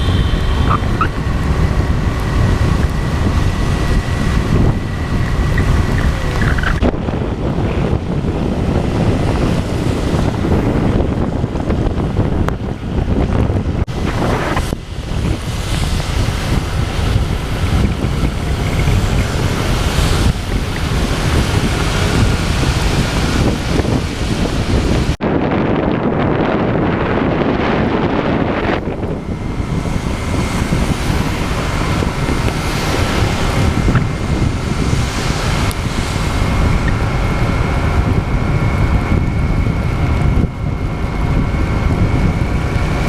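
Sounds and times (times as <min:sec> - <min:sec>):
wet road noise: 0:00.0 - 0:25.2, 0:25.8 - 0:43.0
wind buffeting microphone: 0:00.0 - 0:43.0.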